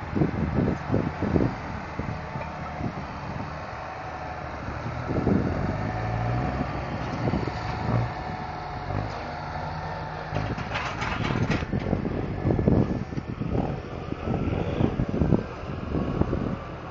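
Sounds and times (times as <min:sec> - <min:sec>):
diesel tractor engine running: 0:00.0 - 0:16.9.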